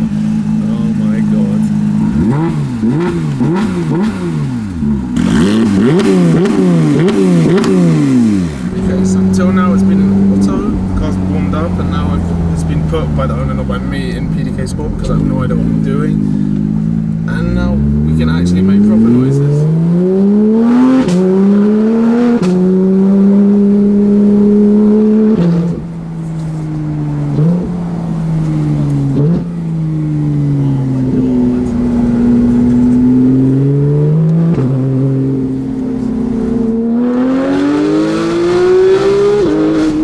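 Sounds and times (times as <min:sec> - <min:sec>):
sports car engine accelerating: 0:00.0 - 0:40.0.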